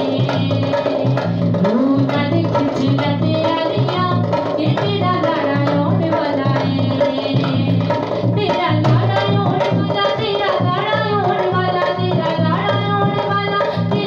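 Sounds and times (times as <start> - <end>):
hand drum rhythm: 0.0 - 14.0
woman singing into microphone: 0.0 - 14.0.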